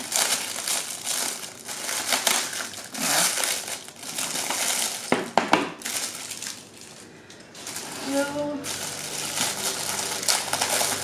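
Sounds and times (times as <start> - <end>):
plastic film crinkling: 0.0 - 11.0.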